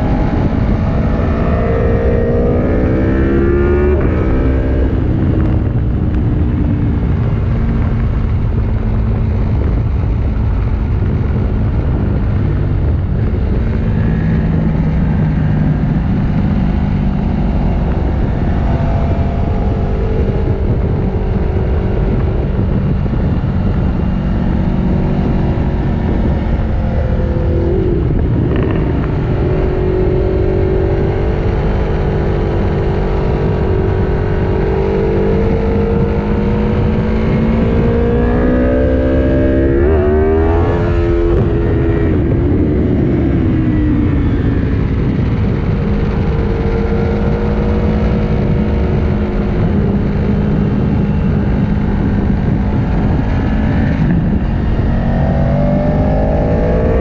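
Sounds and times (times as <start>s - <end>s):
motorcycle engine running hard: 0.0s - 57.0s
wind rush: 0.0s - 57.0s.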